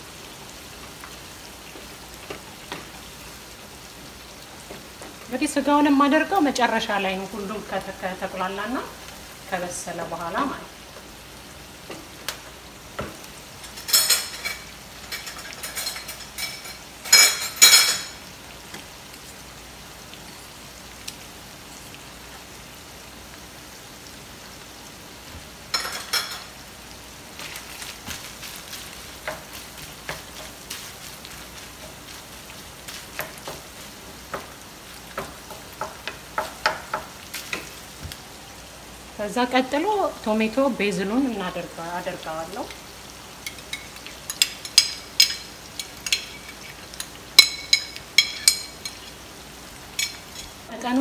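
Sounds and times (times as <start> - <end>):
sauce sizzling in a frying pan: 0.0 - 51.0.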